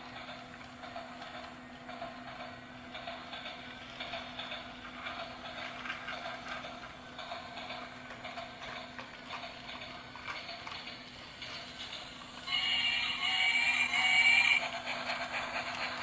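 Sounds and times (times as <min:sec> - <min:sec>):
rhythmic clicking of wheels: 0:00.0 - 0:16.0
toy train motor whirring: 0:01.3 - 0:16.0.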